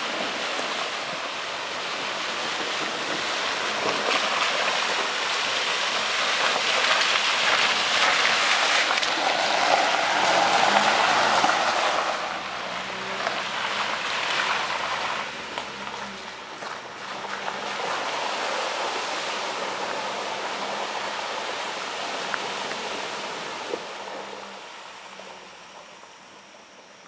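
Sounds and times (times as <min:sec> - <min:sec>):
tyres splashing through water: 0:00.0 - 0:24.8
car engine running low: 0:00.0 - 0:27.0.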